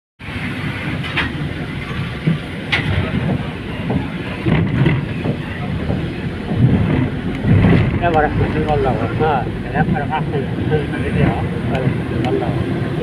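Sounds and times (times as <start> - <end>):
bus driving past: 0.2 - 13.0
city street traffic: 0.2 - 13.0.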